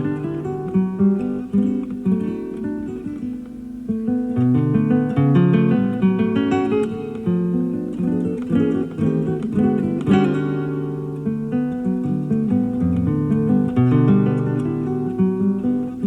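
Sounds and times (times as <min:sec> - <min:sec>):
classical guitar playing: 0:00.0 - 0:16.0.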